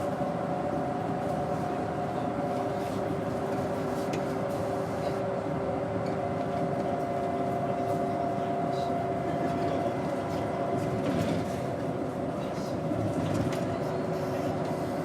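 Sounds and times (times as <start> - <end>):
bus engine droning: 0.0 - 15.0.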